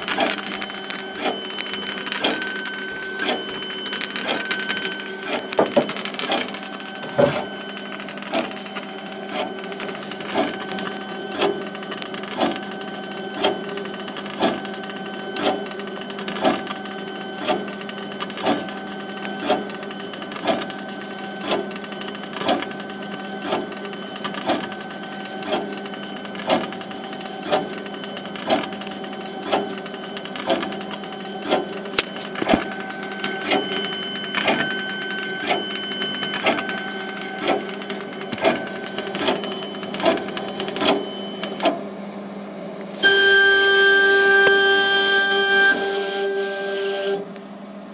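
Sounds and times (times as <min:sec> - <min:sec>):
steady machine hum: 0:00.0 - 0:47.9.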